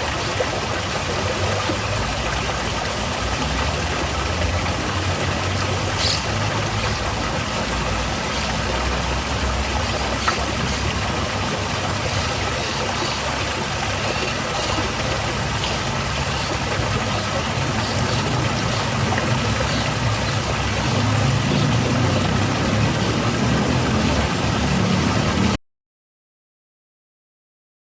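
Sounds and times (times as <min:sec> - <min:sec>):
small waterfall splashing: 0:00.0 - 0:25.6.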